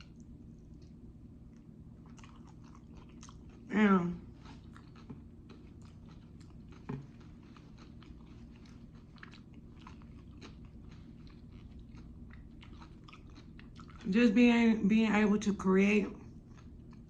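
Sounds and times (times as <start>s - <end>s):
close chewing with wet mouth clicks: 0.0s - 3.7s, 4.4s - 14.1s, 16.5s - 17.0s.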